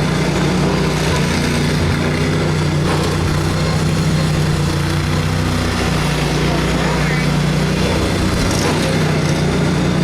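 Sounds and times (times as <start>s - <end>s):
riding lawn mower engine running: 0.0s - 10.0s.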